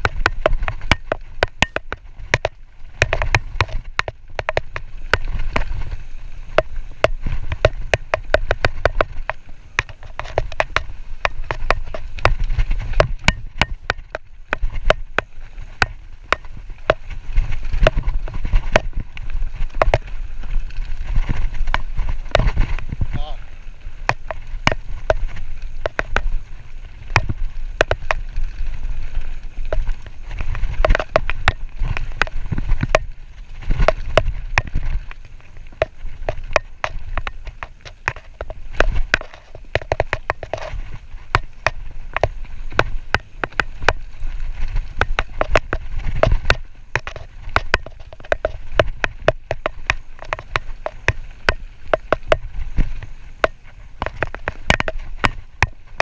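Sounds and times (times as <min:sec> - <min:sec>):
bike rattling over bumps: 0:00.0 - 0:56.0
wind rumble on microphone: 0:00.0 - 0:56.0.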